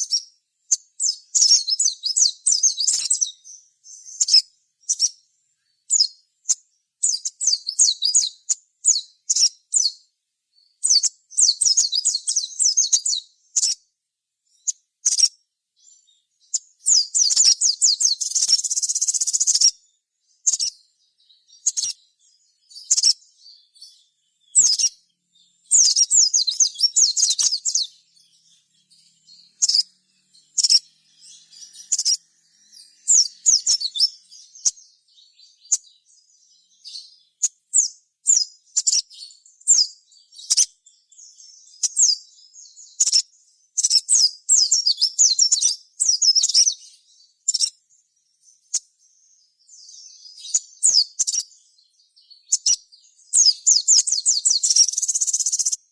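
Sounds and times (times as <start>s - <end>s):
small bird chattering song: 0.0s - 55.9s.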